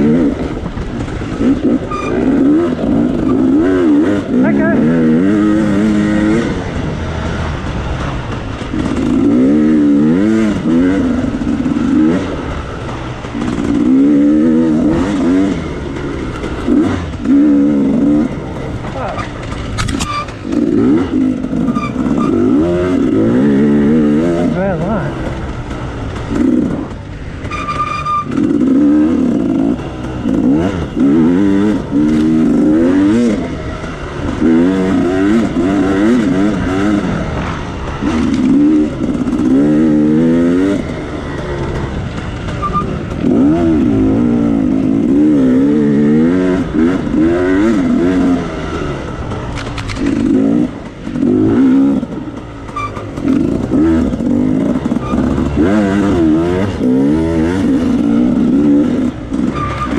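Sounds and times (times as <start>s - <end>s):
dirt bike engine revving: 0.0s - 59.9s
knocks and clatter: 5.3s - 59.9s.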